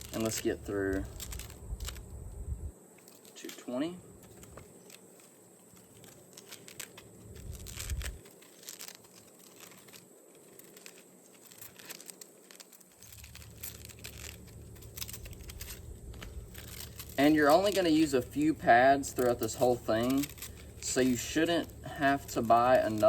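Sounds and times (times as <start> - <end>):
rustling and crinkling of discs: 0.0 - 23.0.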